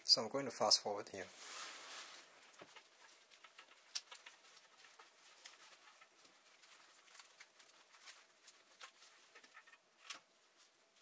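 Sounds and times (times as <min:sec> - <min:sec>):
rustling and light clicks: 0:01.4 - 0:11.0.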